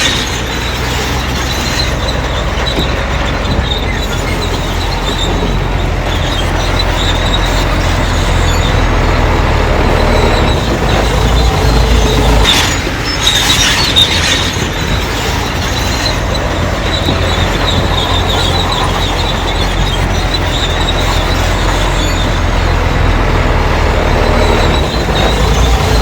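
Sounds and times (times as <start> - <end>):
diesel engine rumble: 0.0 - 26.0
steel tracks squealing: 0.0 - 26.0.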